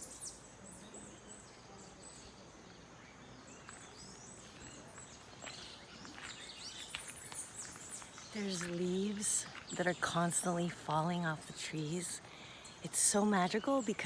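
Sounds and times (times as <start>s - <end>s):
birds chirping and calling: 0.0s - 14.0s
soft outdoor hiss: 0.0s - 14.0s.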